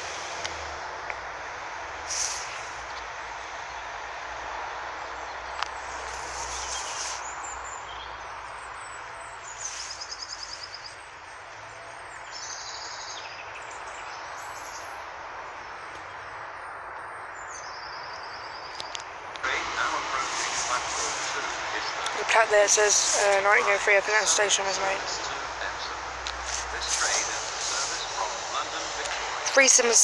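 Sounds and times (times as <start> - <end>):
outdoor background hiss: 0.0 - 30.0
songbird singing: 0.0 - 30.0.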